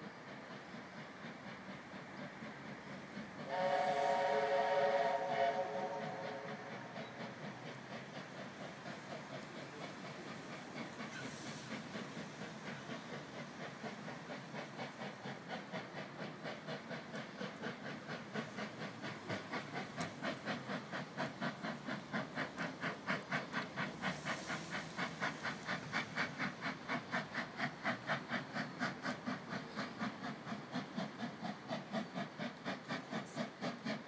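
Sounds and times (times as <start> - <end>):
steam hissing: 0.0 - 34.0
steam locomotive exhaust beats: 0.0 - 34.0.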